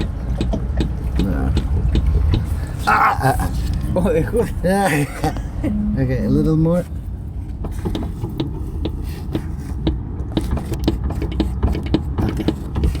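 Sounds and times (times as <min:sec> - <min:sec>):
clunks and knocks: 0:00.0 - 0:05.8, 0:06.4 - 0:13.0
car engine rumbling: 0:00.0 - 0:13.0.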